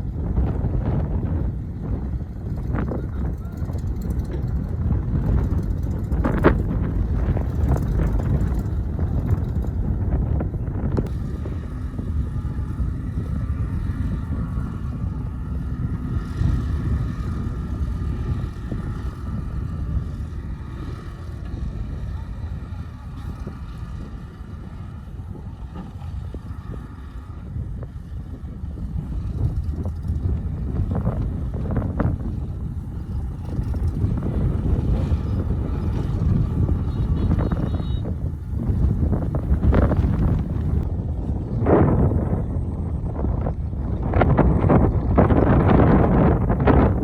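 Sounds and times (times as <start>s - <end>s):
diesel machinery running: 0.0s - 47.0s.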